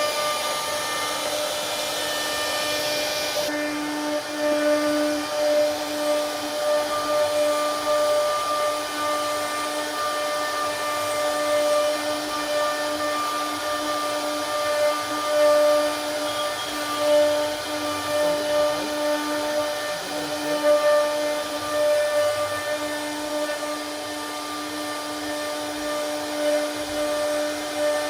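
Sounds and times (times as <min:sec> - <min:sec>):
bit cutting into wood: 0:00.0 - 0:28.0
router spindle whine: 0:00.0 - 0:28.0.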